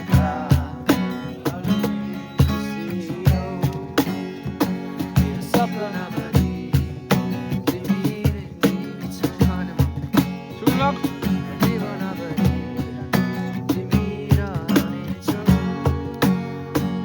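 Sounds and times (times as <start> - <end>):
background music with plucked guitar: 0.0 - 17.0.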